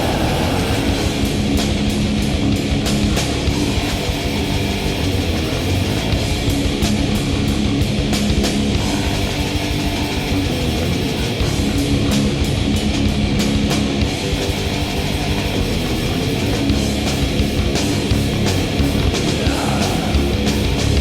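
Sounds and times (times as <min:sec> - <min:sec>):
distorted electric guitar: 0:00.0 - 0:21.0
drums and cymbal hits: 0:00.0 - 0:21.0.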